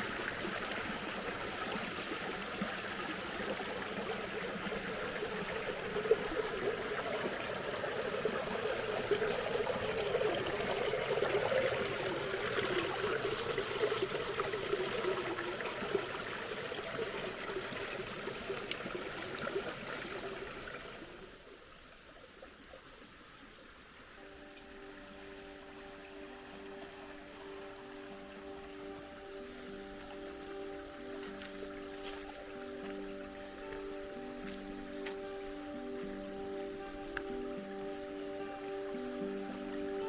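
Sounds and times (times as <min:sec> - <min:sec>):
water rushing and splashing: 0:00.0 - 0:40.0.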